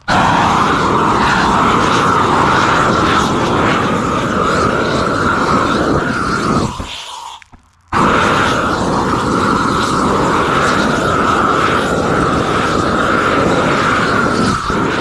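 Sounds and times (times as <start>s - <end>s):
propane torch flame rushing: 0.0s - 15.0s.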